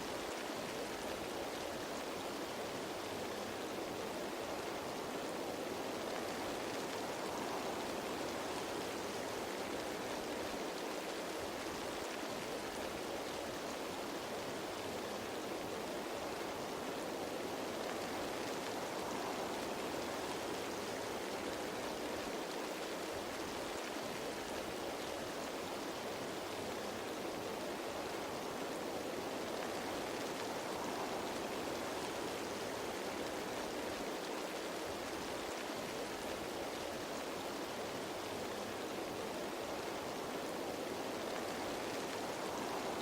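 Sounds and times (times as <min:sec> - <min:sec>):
rain on leaves: 0:00.0 - 0:43.0.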